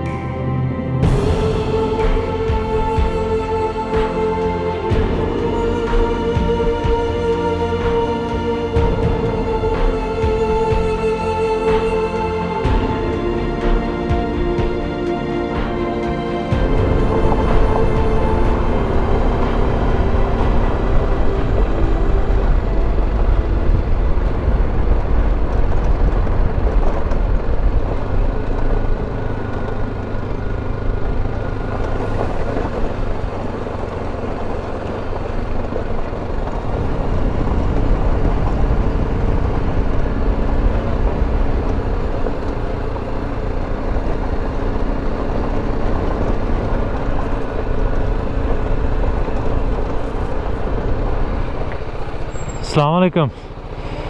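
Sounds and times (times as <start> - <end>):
heavy rushing noise: 0.0 - 54.0
motorcycle engine running: 1.0 - 52.6.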